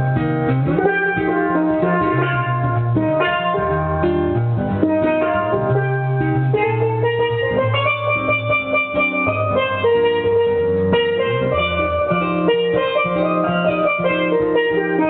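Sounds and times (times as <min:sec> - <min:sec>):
low bass line: 0:00.0 - 0:15.0
steel pan melody: 0:00.0 - 0:15.0.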